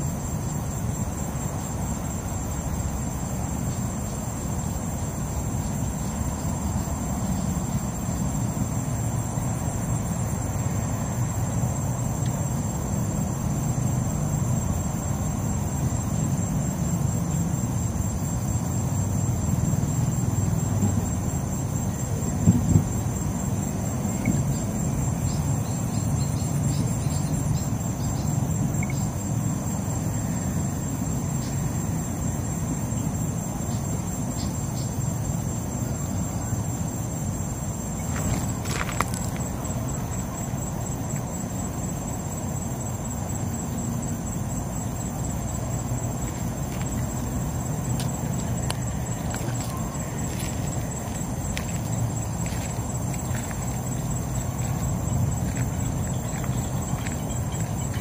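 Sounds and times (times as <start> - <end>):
high-pitched insect trill: 0.0 - 58.0.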